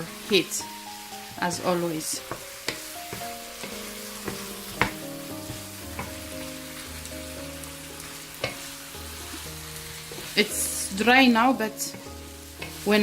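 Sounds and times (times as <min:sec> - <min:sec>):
chicken and onion sizzling in pot: 0:00.0 - 0:13.0
soft background music: 0:00.0 - 0:13.0.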